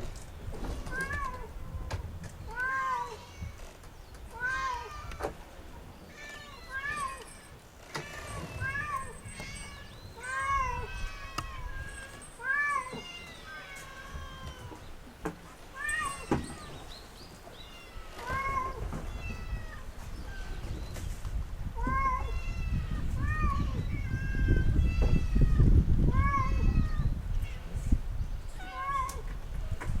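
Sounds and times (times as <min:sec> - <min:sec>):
cats meowing: 0:00.7 - 0:05.4, 0:06.0 - 0:14.9, 0:15.7 - 0:16.9, 0:17.5 - 0:20.8, 0:21.8 - 0:27.9, 0:28.6 - 0:29.4.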